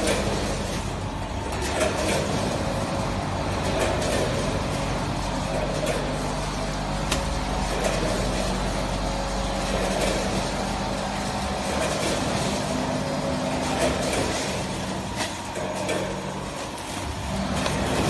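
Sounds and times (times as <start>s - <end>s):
packing machine humming: 0.0s - 18.0s.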